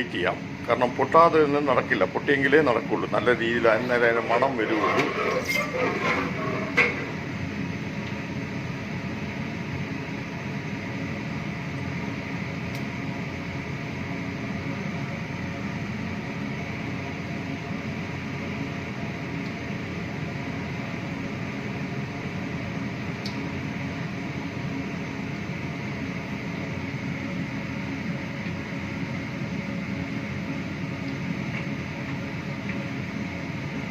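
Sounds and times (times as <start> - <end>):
kitchen equipment humming: 0.0 - 33.9.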